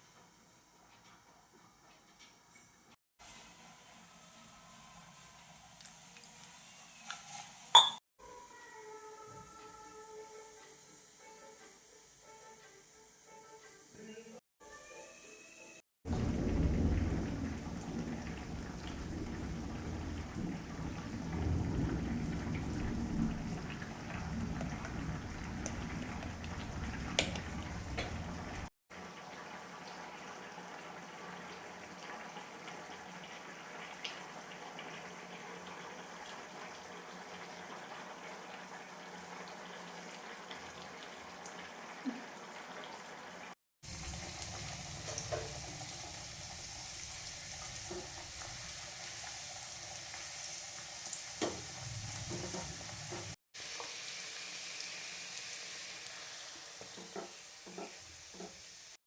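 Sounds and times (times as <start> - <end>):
hot oil sizzling: 3.2 - 8.0, 16.1 - 59.0.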